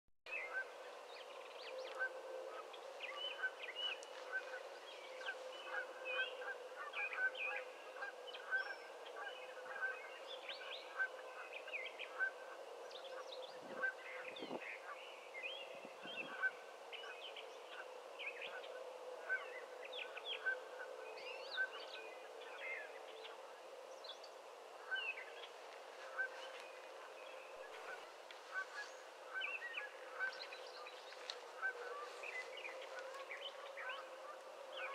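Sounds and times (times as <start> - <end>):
birds calling: 0.3 - 34.9.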